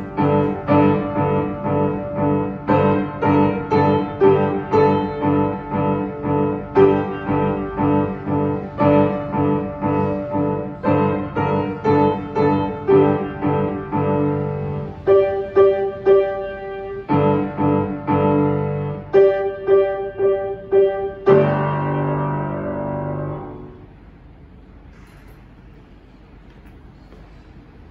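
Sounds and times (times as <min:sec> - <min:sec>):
upright piano playing: 0:00.0 - 0:24.0.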